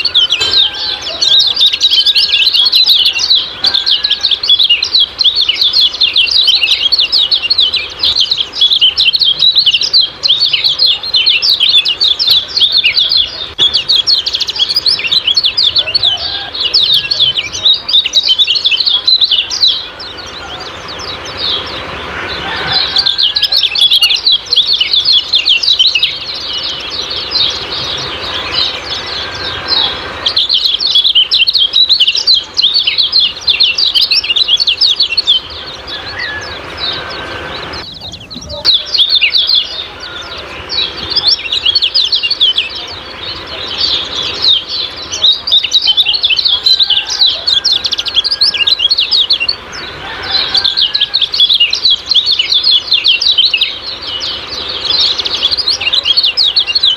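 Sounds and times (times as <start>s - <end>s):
bird chattering high chirps: 0.0s - 56.9s.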